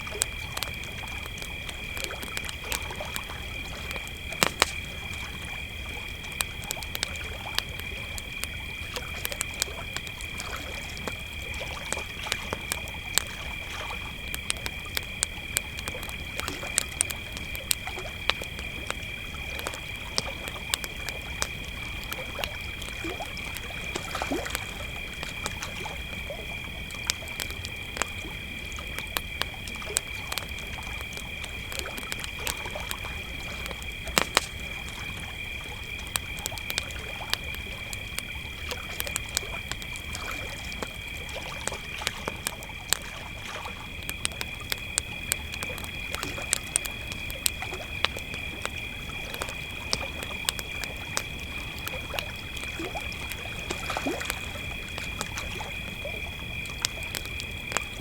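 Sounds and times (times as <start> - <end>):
burning wood popping: 0.0 - 58.0
campfire crackling: 0.0 - 58.0
crickets trilling: 0.0 - 58.0.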